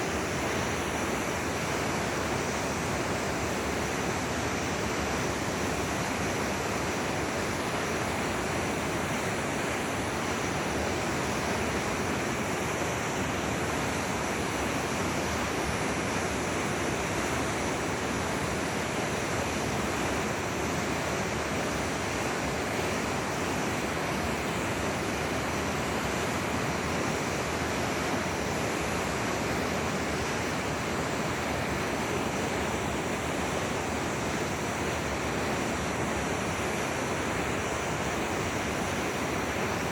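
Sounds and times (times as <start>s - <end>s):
forest river rushing: 0.0s - 39.9s.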